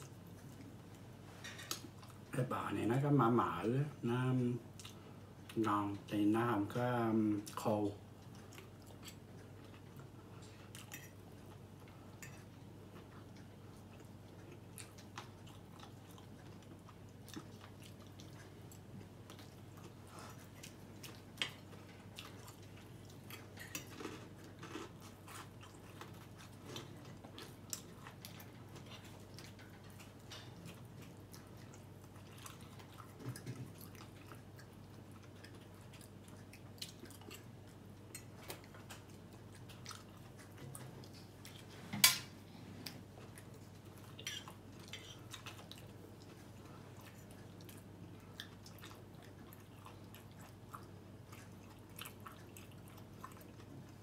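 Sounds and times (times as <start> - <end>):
man chewing food: 0.0 - 2.3, 4.6 - 6.2, 6.9 - 54.0
faint low hum: 0.0 - 54.0.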